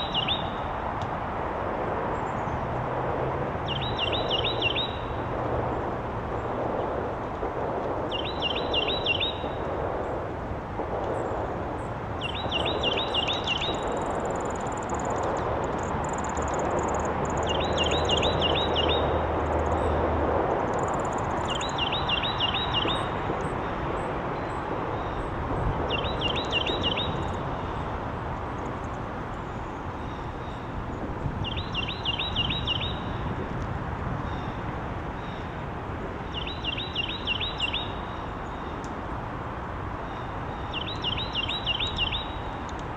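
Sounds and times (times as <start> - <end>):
steady background noise: 0.0 - 42.9.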